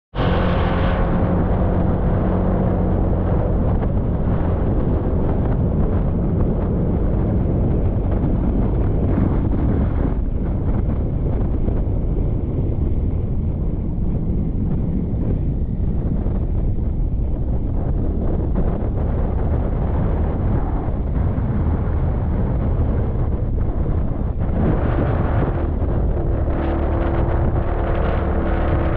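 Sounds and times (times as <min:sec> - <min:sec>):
motorbike engine drone: 0:00.1 - 0:28.9
wind rushing over microphone: 0:00.1 - 0:28.9.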